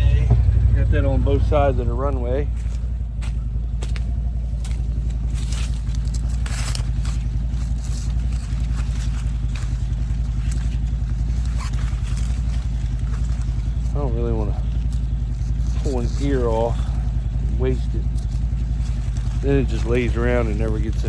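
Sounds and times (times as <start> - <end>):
vehicle engine running: 0.0 - 21.0
rustling and scraping: 0.2 - 21.0.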